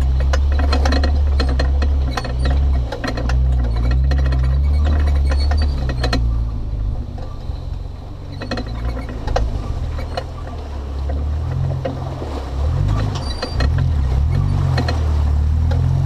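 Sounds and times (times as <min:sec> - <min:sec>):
knocks and rattles from bumps: 0:00.0 - 0:16.0
truck engine droning: 0:00.0 - 0:16.0.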